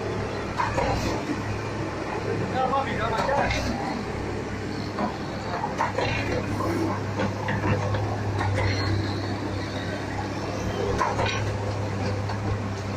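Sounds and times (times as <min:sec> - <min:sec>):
concrete mixer pump engine hum: 0:00.0 - 0:12.9.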